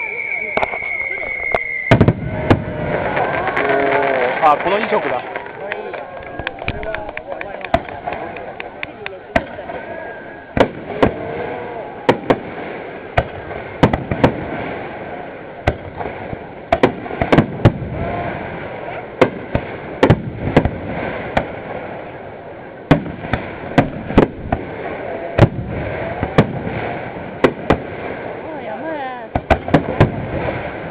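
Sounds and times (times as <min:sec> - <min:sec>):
continuous haze of noise: 0:00.0 - 0:30.9
fireworks bangs: 0:00.0 - 0:30.9.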